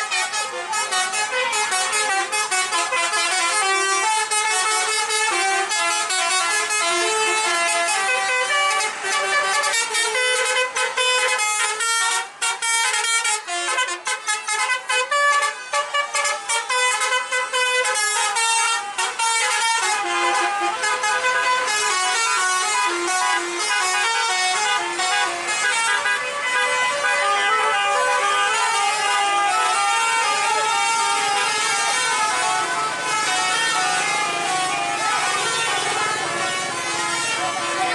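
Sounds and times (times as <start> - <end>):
bus air horns playing tunes: 0.0 - 37.9.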